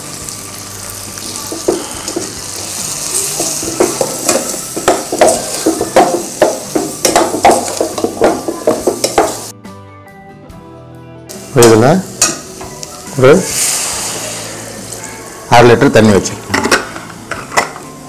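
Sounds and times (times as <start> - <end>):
vegetables sizzling in oil: 0.0 - 9.5, 11.3 - 18.0.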